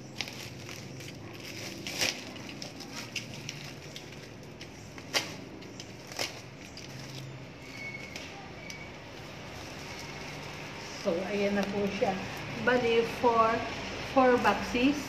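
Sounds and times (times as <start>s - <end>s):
plastic wrapping crinkling: 0.0s - 12.6s.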